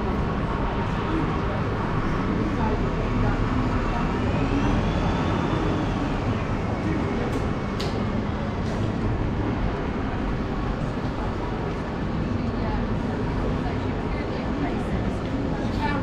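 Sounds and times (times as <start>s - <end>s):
bus engine humming: 0.0s - 16.0s
street traffic: 0.0s - 16.0s.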